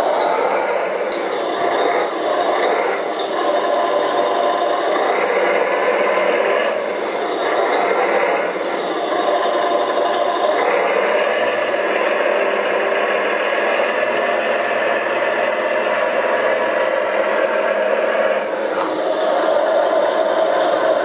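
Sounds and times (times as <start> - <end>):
gears and tracks rattling: 0.0 - 21.0.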